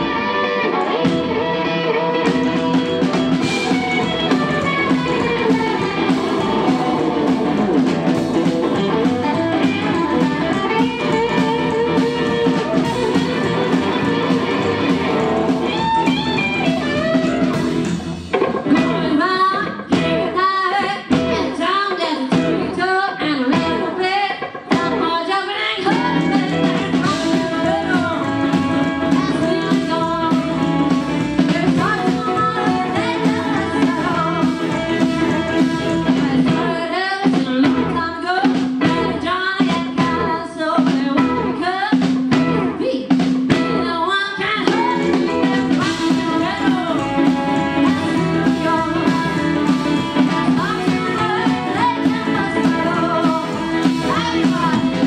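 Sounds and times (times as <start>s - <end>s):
woman singing: 0.0s - 17.6s, 18.6s - 55.0s
drum kit: 0.0s - 55.0s
electric guitar: 0.0s - 55.0s.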